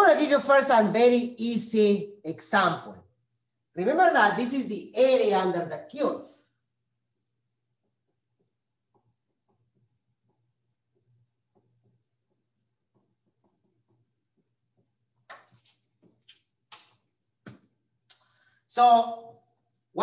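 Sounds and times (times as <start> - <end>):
marker scratching on whiteboard: 0.0 - 20.0.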